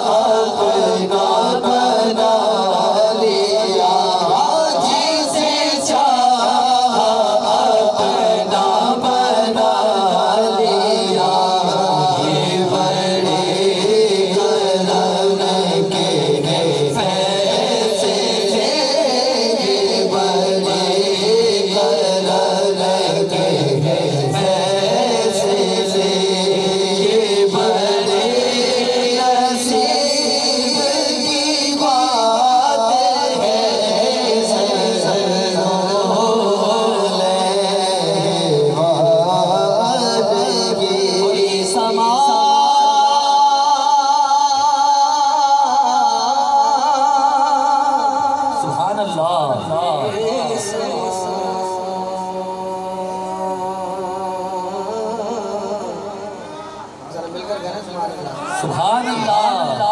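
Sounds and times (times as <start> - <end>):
men singing into microphones: 0.0 - 57.0.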